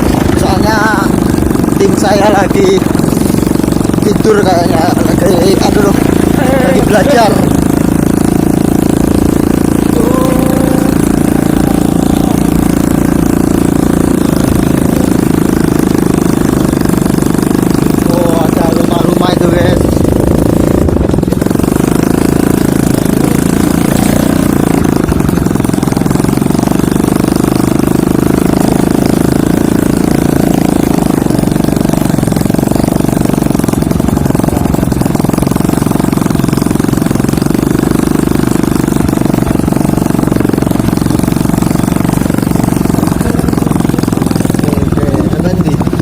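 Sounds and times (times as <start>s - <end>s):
motorcycle engine droning: 0.0s - 46.0s.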